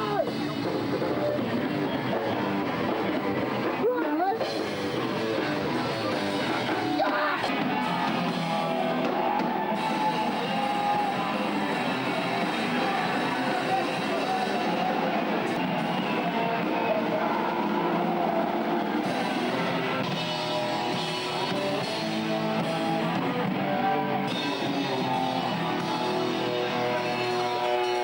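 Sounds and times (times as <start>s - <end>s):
drum kit: 0.0s - 28.0s
electric guitar: 0.0s - 28.0s.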